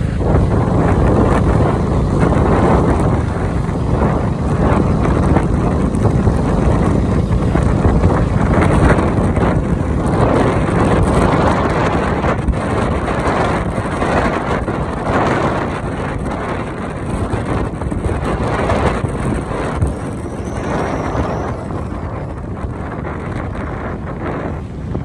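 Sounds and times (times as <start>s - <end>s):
motorbike riding: 0.0s - 25.0s
wind buffeting microphone: 0.0s - 25.0s.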